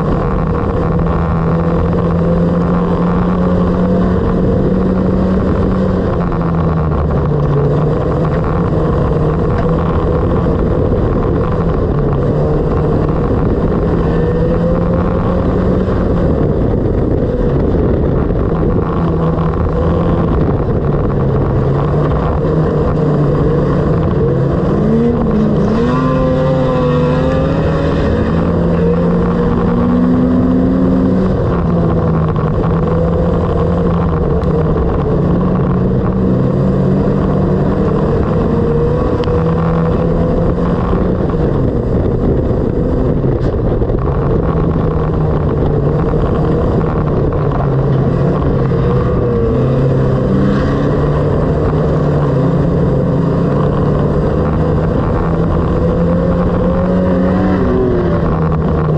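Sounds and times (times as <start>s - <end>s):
higher engine note wavering: 0.0s - 58.9s
race car engine running hard: 0.0s - 58.9s
tyres rumbling on dirt: 0.0s - 58.9s.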